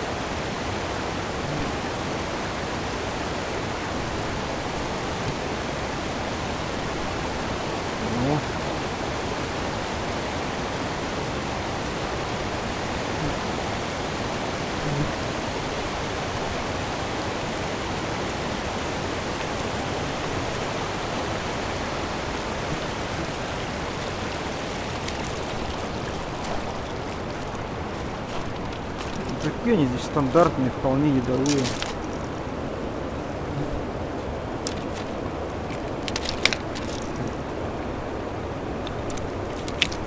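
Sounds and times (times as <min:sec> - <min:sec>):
river water rushing over gravel: 0:00.0 - 0:40.0.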